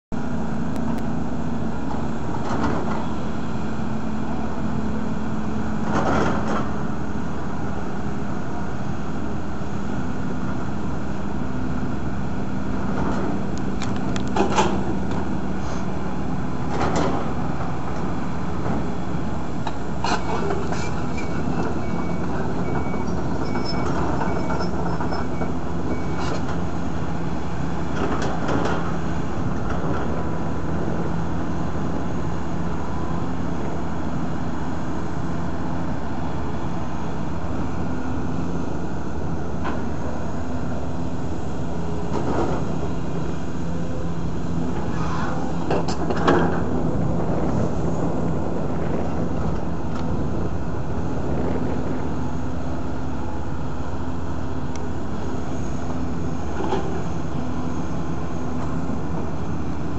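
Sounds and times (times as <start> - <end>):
excavator diesel engine running: 0.2 - 59.9.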